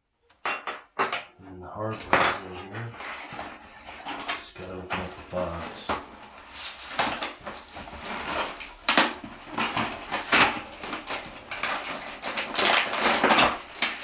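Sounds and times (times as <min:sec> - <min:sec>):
cardboard rustling and scraping: 0:02.4 - 0:14.0.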